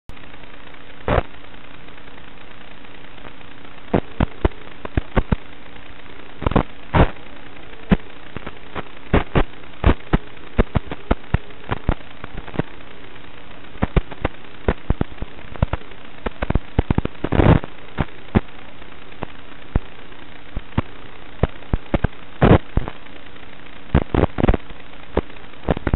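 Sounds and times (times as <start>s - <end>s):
radio static hiss: 0.1s - 25.9s
sharp crackles and pops: 0.1s - 25.9s.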